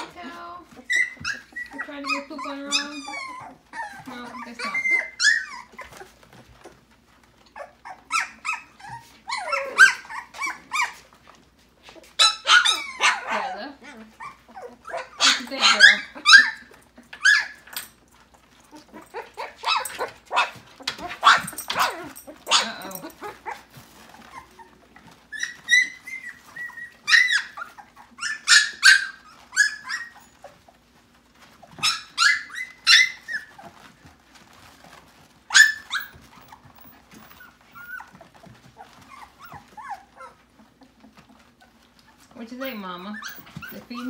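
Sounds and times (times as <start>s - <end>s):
puppies whimpering: 0.0s - 44.0s
puppies yipping and squealing: 0.0s - 44.0s.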